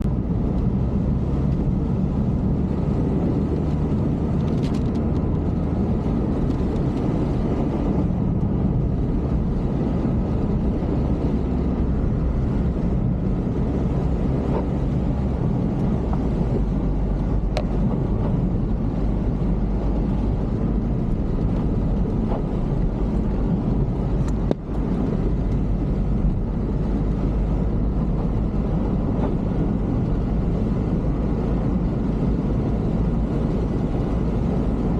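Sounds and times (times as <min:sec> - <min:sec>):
vehicle engine and road rumble: 0:00.0 - 0:34.9
wind noise: 0:00.0 - 0:34.9.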